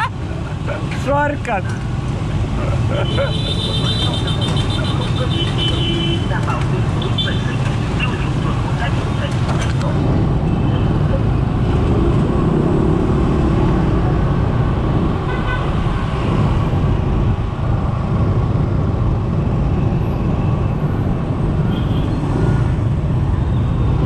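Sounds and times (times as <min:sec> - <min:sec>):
motorbike engines rumbling: 0:00.0 - 0:24.0.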